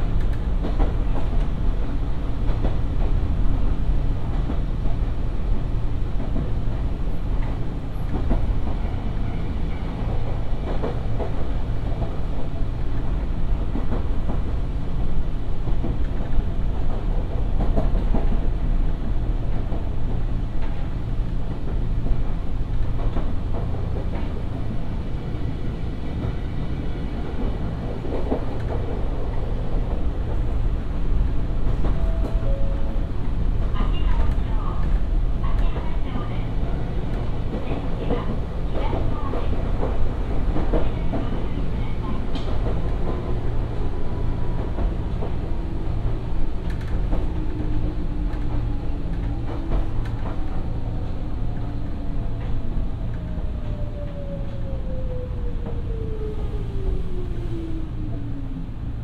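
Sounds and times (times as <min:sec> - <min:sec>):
rail joint clicks: 0:00.0 - 0:05.1, 0:06.0 - 0:24.8, 0:26.0 - 0:54.6
train wheels rumbling on rail: 0:00.0 - 0:59.0.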